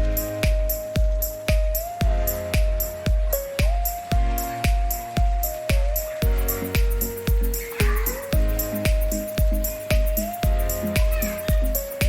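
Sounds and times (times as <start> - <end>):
electronic beat music: 0.0 - 12.0.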